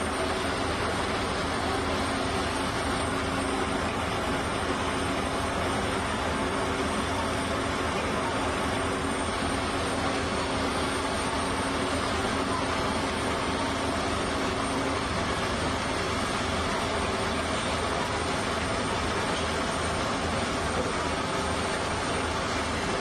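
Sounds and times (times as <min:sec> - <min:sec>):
engine low hum: 0:00.0 - 0:23.0
heavy construction machinery running: 0:00.0 - 0:23.0.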